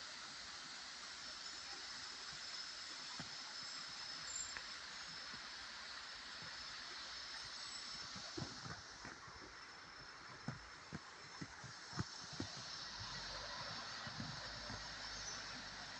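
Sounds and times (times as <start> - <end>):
flowing river water: 0.0 - 15.9.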